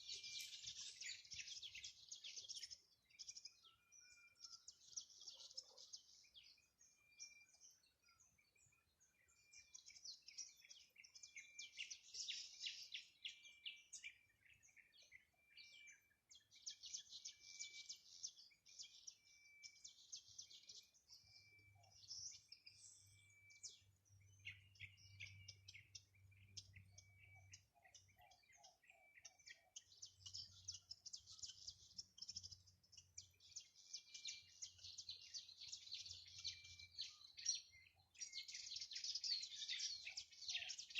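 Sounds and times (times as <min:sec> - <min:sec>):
small birds chirping and trilling: 0:00.0 - 0:40.9.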